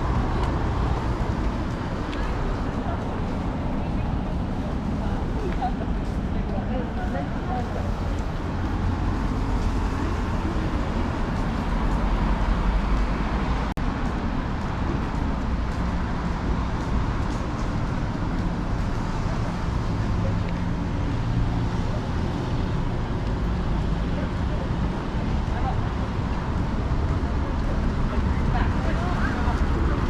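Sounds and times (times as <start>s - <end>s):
passers-by's voices: 0.0s - 30.0s
road traffic rumble: 0.0s - 30.0s.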